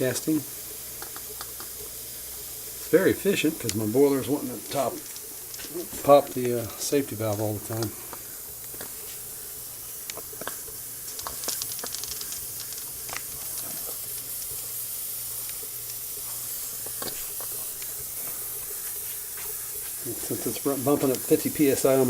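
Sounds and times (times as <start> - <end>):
steam hissing: 0.0 - 22.0.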